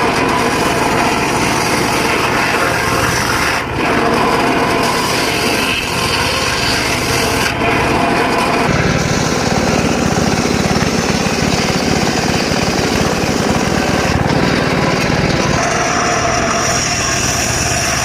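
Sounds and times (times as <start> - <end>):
engine-driven circular saw cutting wood: 0.0 - 18.0
steady high whine: 0.0 - 18.0.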